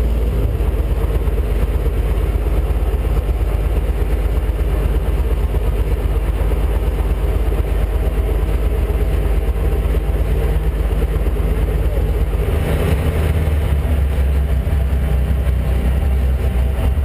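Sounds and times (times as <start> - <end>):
aircraft piston engine and propeller: 0.0 - 17.0.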